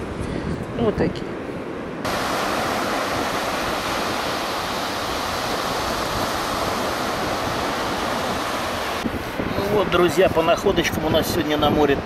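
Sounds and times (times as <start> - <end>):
strong wind: 0.0 - 12.0
surf breaking on a sandy beach: 2.0 - 12.0.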